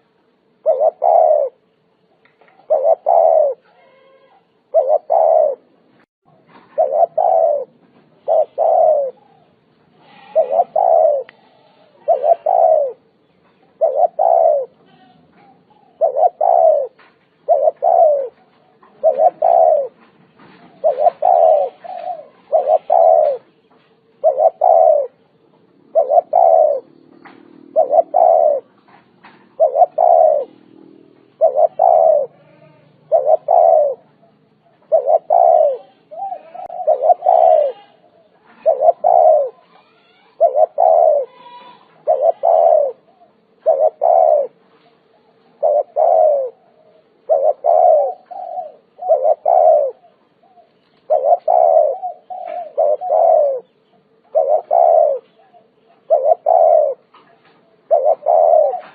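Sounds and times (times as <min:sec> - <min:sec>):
dove cooing: 0:00.0 - 0:58.9.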